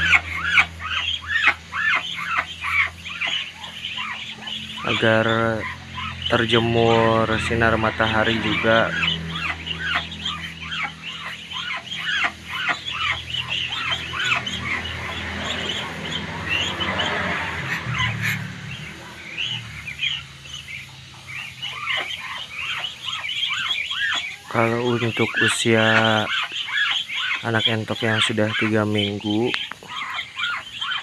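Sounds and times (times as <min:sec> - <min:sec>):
ducklings peeping: 0:00.0 - 0:31.0
steady low hum: 0:00.0 - 0:31.0.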